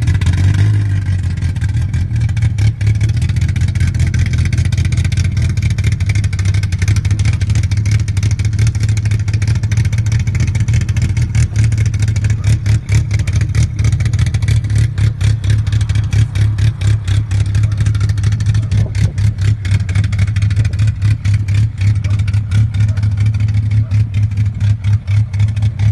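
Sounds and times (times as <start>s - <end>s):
car engine running: 0.0s - 25.9s.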